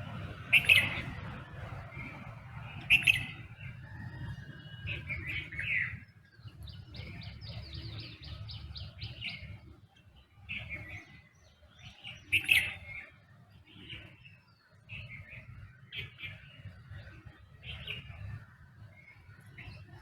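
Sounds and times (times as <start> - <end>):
birds chirping and calling: 0.0 - 9.7, 10.5 - 20.0.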